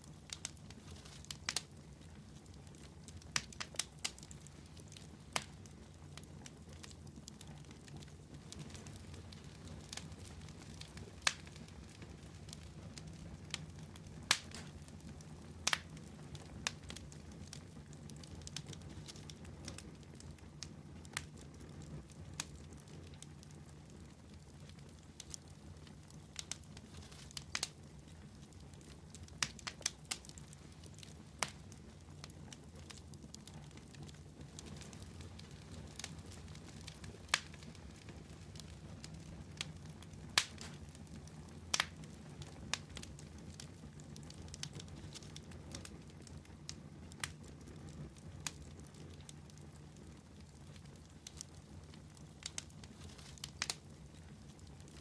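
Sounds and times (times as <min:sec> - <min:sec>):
campfire crackling and popping: 0:00.0 - 0:55.0
low steady fire rumble: 0:00.0 - 0:55.0.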